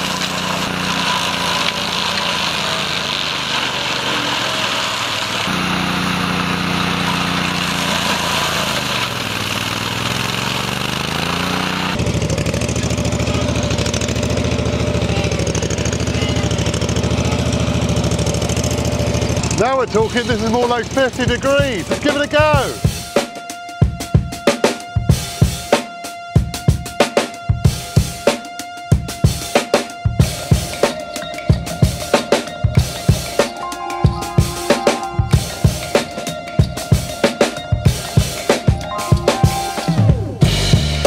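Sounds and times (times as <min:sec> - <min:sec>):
mower engine running under load: 0:00.0 - 0:23.4, 0:27.5 - 0:41.0.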